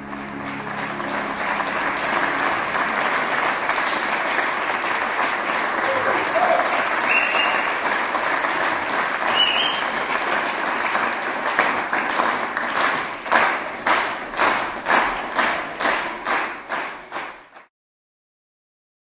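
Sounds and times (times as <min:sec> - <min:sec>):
audience applause: 0:00.0 - 0:17.7
rhythmic unison clapping: 0:00.0 - 0:17.7.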